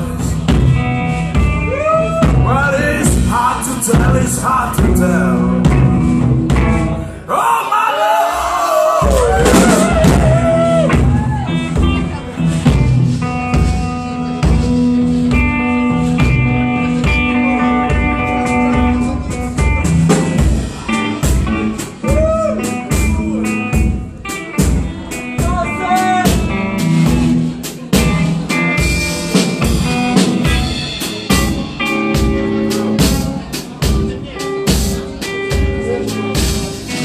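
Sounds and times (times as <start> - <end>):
drum kit steady beat: 0.0 - 7.0, 9.0 - 37.0
electric guitar playing blues: 0.0 - 7.3, 9.2 - 37.0.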